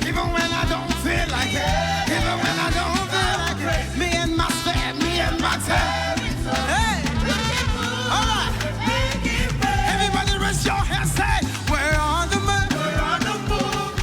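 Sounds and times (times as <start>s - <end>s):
band playing upbeat worship music: 0.0s - 14.0s.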